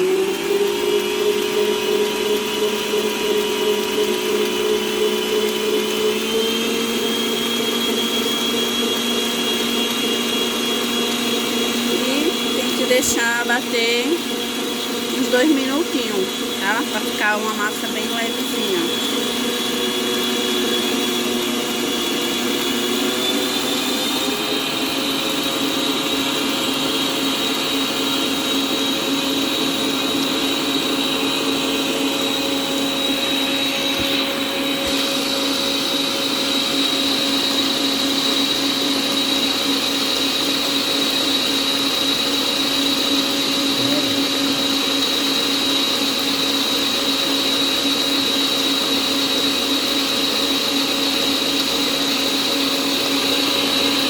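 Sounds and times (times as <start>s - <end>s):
electric mixer motor whining: 0.0s - 54.0s.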